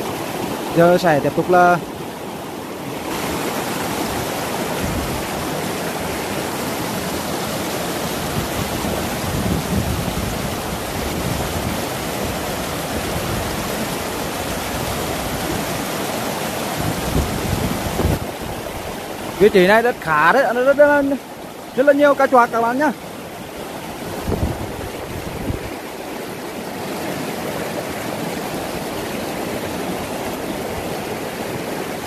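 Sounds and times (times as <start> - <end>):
water rushing in a stream: 0.0 - 32.0.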